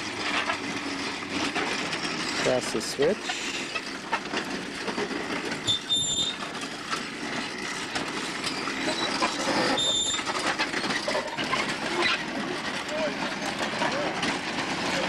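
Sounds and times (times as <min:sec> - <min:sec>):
trolley wheels clattering on rails: 0:00.0 - 0:15.0.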